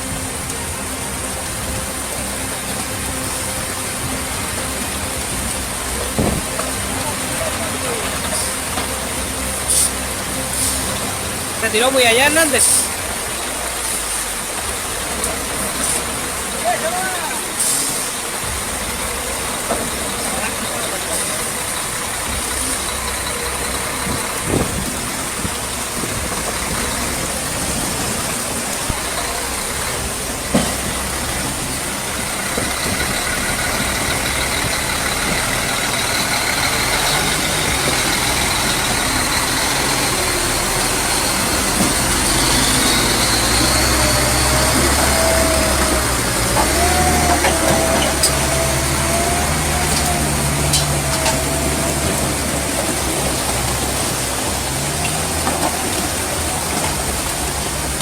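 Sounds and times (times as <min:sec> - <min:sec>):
heavy truck engine under load: 0:00.0 - 0:58.0.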